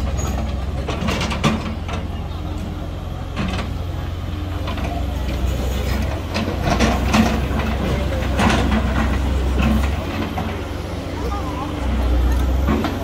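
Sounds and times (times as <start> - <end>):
crowd talking: 0.0 - 13.0
excavator diesel engine running: 0.0 - 13.0.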